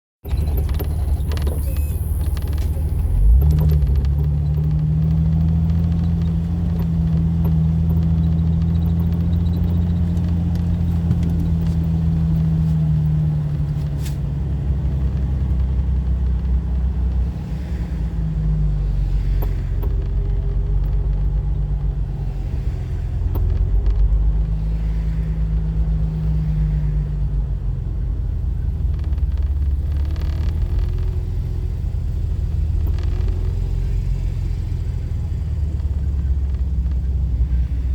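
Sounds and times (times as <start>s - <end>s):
car engine and road rumble: 0.2s - 37.9s.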